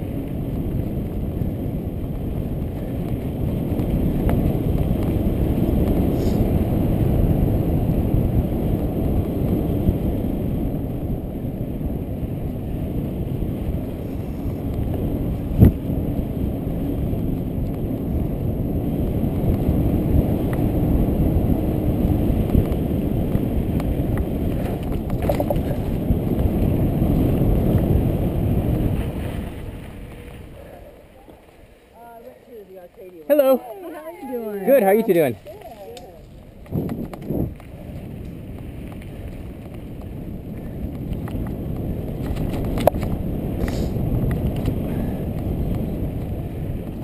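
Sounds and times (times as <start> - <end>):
tyres rumbling on dirt trail: 0.0 - 47.0
wind rushing over microphone: 0.0 - 47.0.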